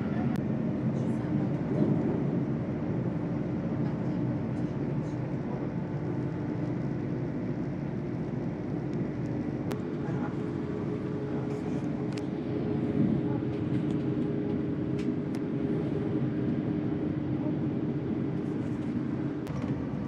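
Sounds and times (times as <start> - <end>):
train rumble inside coach: 0.0 - 20.0.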